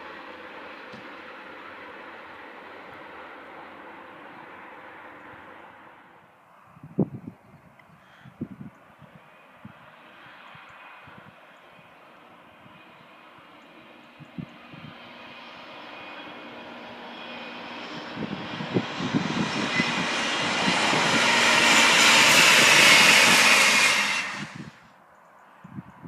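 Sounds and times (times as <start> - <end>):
diesel train passing: 0.0 - 6.4, 9.2 - 24.9.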